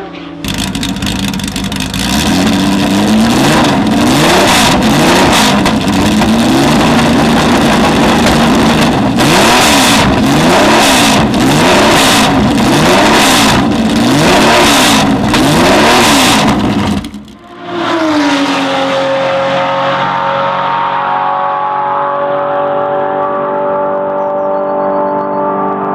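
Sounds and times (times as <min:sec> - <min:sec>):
racing engine revving hard: 0:00.4 - 0:24.0.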